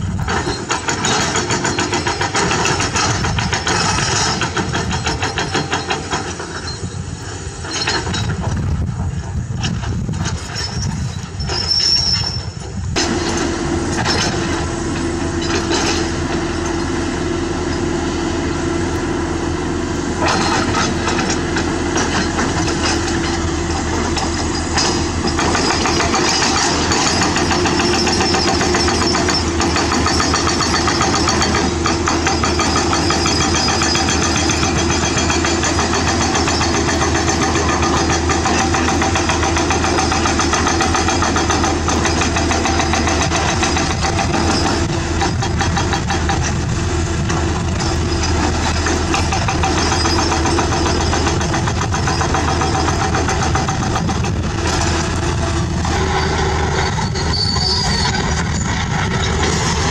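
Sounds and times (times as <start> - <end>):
hydraulic breaker hammering rock: 0.0 - 6.9, 13.0 - 16.9, 20.2 - 59.9
diesel engine running: 0.0 - 59.9.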